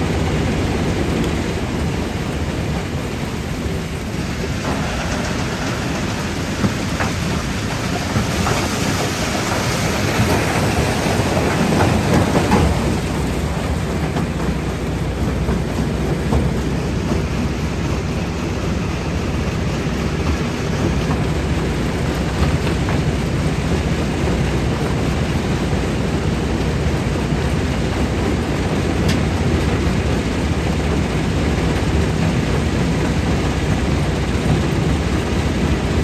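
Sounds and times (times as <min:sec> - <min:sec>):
rock crusher rumbling: 0:00.0 - 0:36.0.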